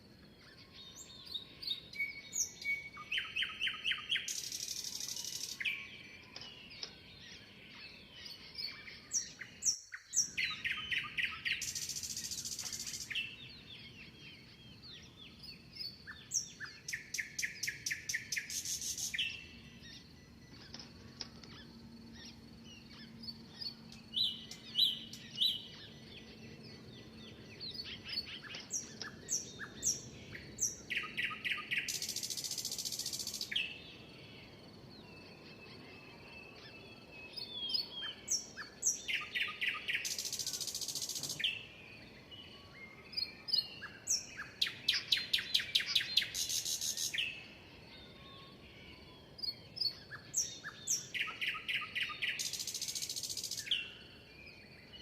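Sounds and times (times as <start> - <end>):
songbird chirps and buzzy trill: 0.0 - 55.0.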